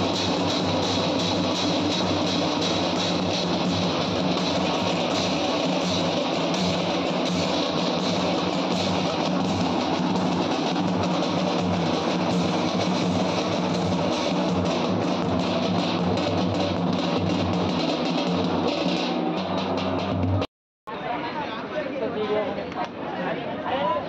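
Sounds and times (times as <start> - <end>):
procession drumming: 0.0 - 20.5.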